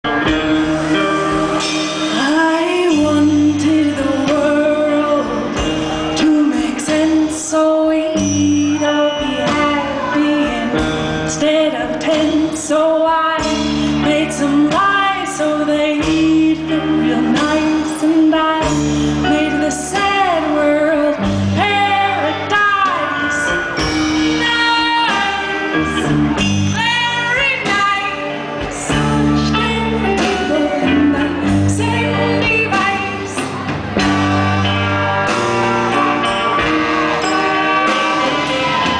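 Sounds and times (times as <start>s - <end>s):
bass line: 0.0s - 38.9s
live band playing: 0.0s - 38.9s
woman singing: 0.9s - 34.8s.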